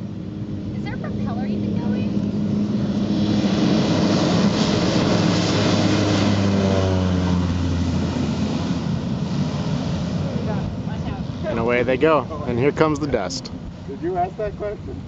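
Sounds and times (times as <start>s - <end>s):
propeller plane taking off: 0.0s - 15.0s.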